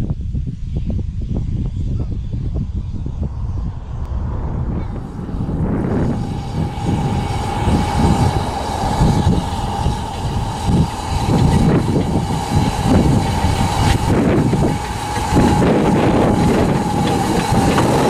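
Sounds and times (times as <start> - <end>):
train wheels rumbling on rails: 0.0 - 18.0
steady high-pitched tone: 2.3 - 18.0.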